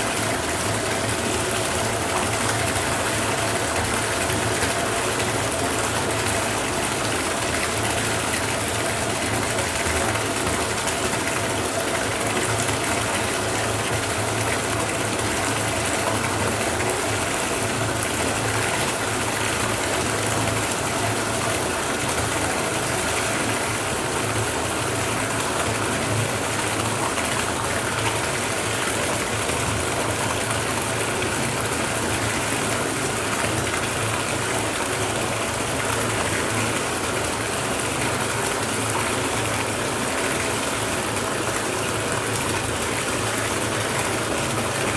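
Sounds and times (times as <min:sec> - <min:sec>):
water pouring into bathtub: 0:00.0 - 0:44.9.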